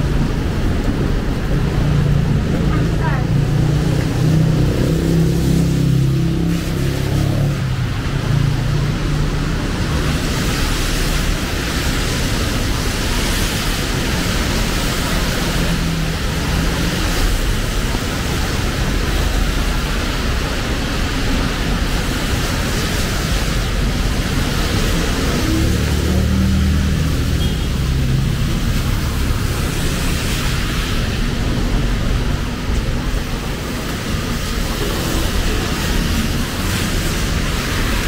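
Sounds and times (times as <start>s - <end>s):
heavy rain on street: 0.0s - 38.0s
tyres on wet road: 0.0s - 38.0s
vehicle engines: 0.0s - 38.0s.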